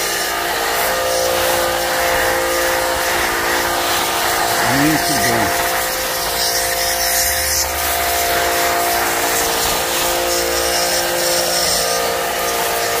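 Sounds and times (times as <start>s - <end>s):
pressure washer motor drone: 0.0s - 13.0s.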